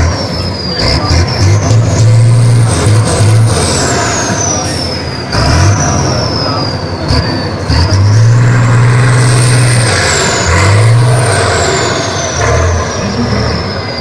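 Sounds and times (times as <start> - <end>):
high whine: 0.0 - 14.0
truck engine revving: 0.0 - 14.0.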